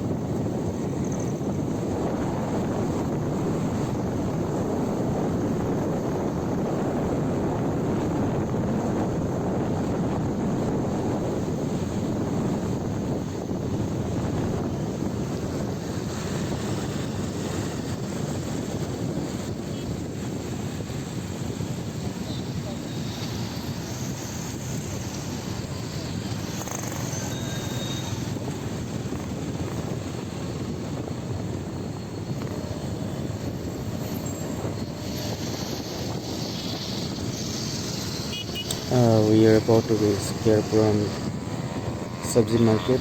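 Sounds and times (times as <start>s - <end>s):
wind and road noise on motorcycle: 0.0s - 43.0s.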